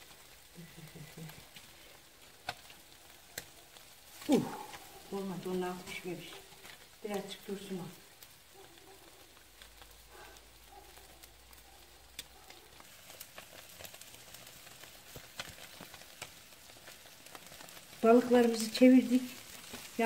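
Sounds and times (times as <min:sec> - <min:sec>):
embers crackling: 0:00.0 - 0:20.0
fish sizzling on grill: 0:00.0 - 0:20.0.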